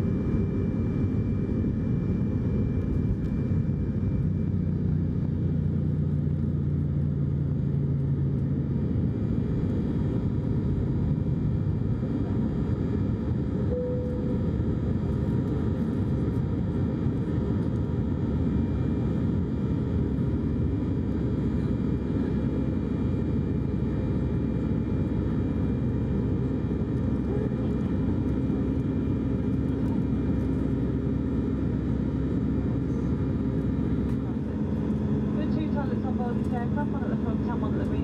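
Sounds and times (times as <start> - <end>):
airliner engines rumbling: 0.0 - 38.0.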